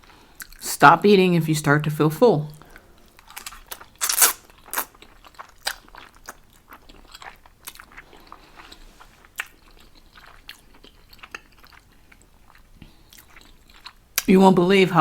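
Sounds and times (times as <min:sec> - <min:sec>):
person chewing food: 0:00.0 - 0:00.6, 0:02.6 - 0:14.3.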